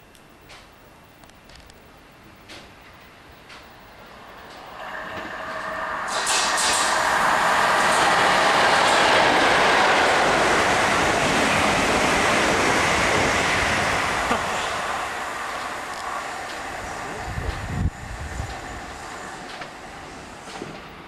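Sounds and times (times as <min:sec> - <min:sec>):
train passing at speed: 0:03.2 - 0:21.0.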